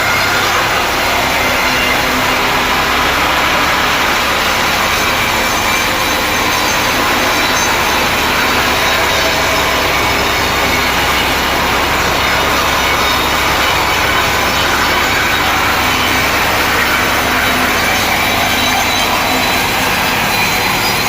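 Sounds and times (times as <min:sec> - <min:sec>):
sawmill saw cutting log: 0:00.0 - 0:21.0.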